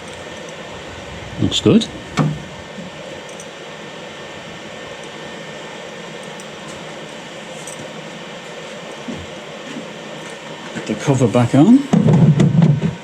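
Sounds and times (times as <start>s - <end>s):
cooling fans whirring: 0.0s - 11.6s.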